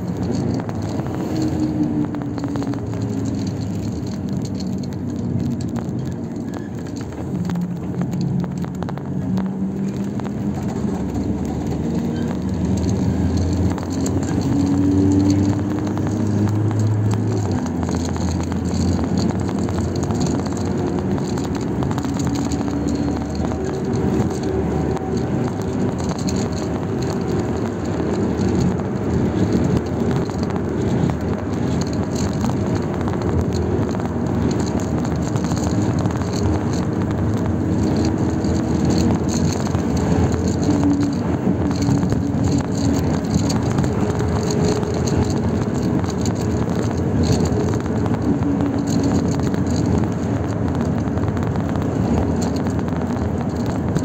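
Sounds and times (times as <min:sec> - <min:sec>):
tyres rumbling on road: 0:00.0 - 0:54.0.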